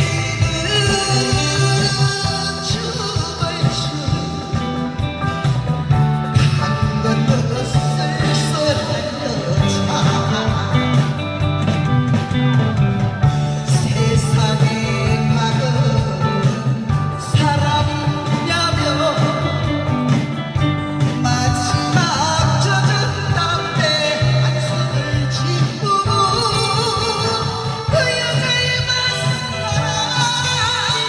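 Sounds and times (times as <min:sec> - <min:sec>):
person singing: 0:00.0 - 0:12.4, 0:13.2 - 0:31.0
instrumental music with bass: 0:00.0 - 0:31.0.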